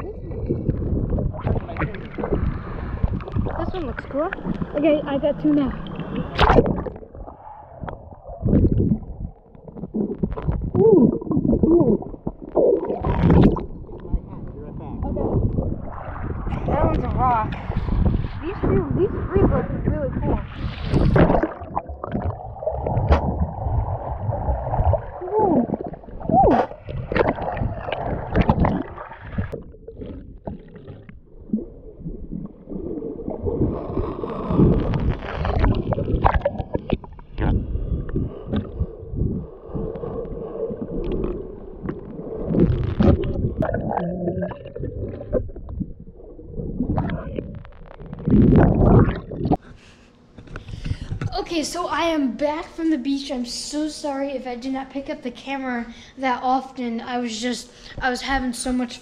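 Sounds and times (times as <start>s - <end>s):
muffled underwater sloshing: 0.0s - 52.4s.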